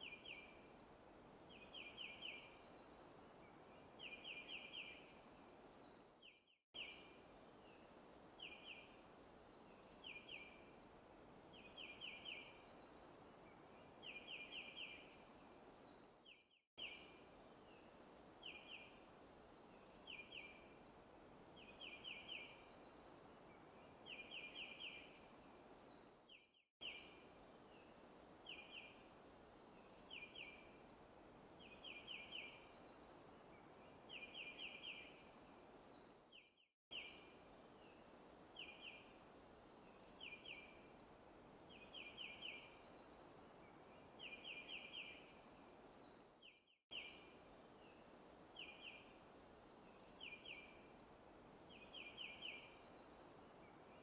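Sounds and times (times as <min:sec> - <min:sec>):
faint bird chirping: 0:00.0 - 0:54.0
soft forest background hiss: 0:00.0 - 0:54.0.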